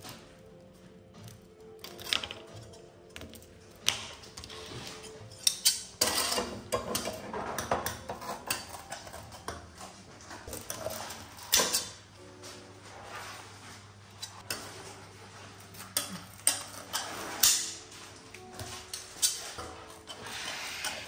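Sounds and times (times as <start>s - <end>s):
quiet background music: 0.0s - 21.0s.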